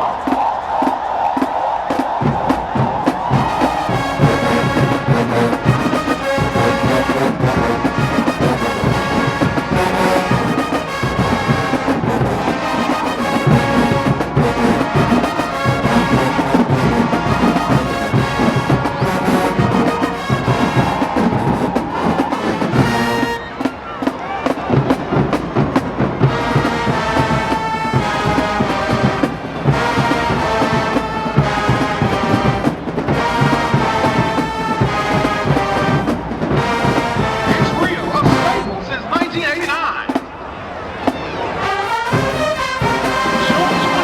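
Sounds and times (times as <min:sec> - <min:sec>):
marching band brass: 0:00.0 - 0:44.0
marching drums: 0:00.0 - 0:44.0.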